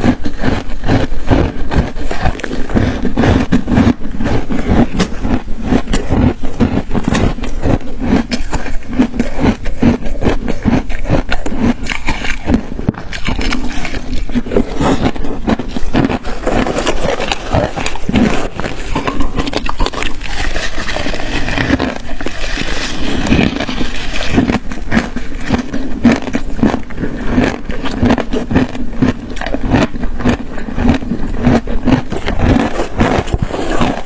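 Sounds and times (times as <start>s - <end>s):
ice being chewed: 0.0s - 34.0s.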